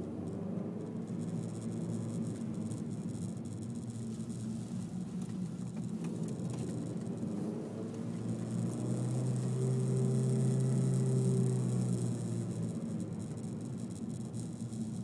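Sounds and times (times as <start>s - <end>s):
car cabin road noise: 0.0s - 15.0s
low engine hum: 0.0s - 15.0s.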